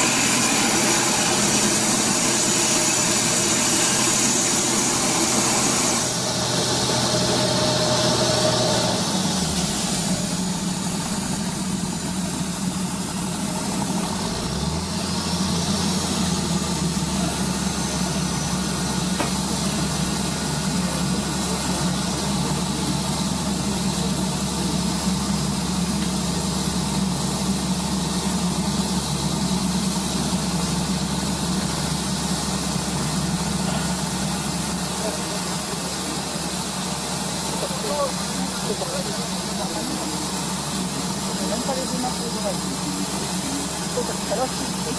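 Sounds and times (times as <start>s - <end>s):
drilling rig engine running: 0.0s - 44.9s.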